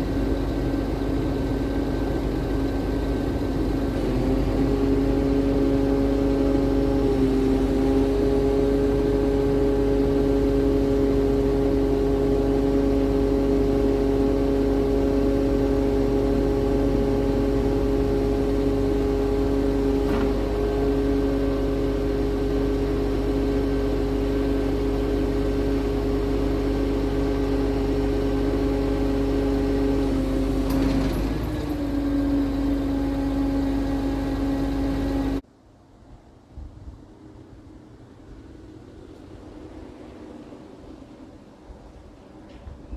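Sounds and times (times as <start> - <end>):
truck diesel engine running: 0.0 - 35.4.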